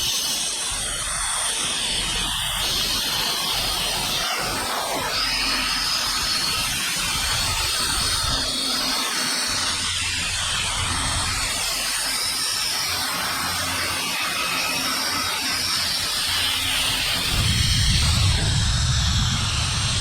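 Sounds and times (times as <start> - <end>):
machine tool running: 0.0 - 20.0.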